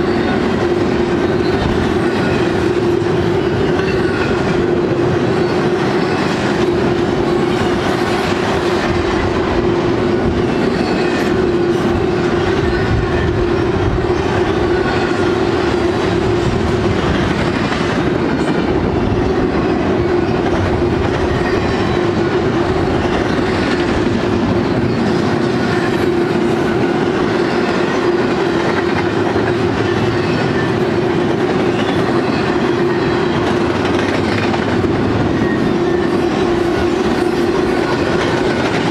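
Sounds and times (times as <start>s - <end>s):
train wheels rolling on rail: 0.0s - 38.9s.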